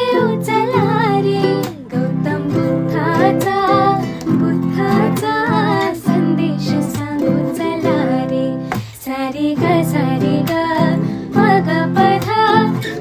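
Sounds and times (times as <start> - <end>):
person singing: 0.0 - 13.0
plucked guitar: 0.0 - 13.0.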